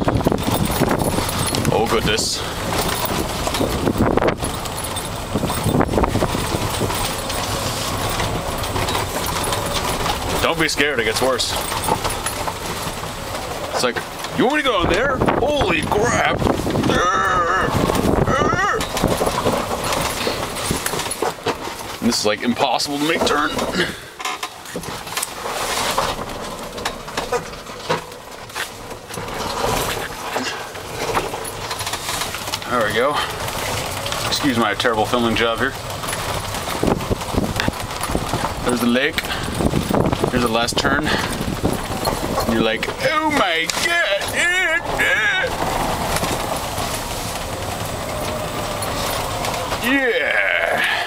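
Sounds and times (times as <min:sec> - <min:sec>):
cart clicks and rattles: 0:00.0 - 0:51.0
golf cart rolling on concrete: 0:00.0 - 0:51.0.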